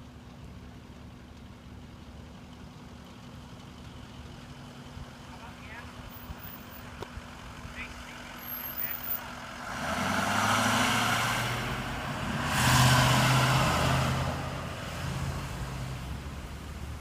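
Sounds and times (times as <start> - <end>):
fire truck diesel engine: 0.0 - 17.0.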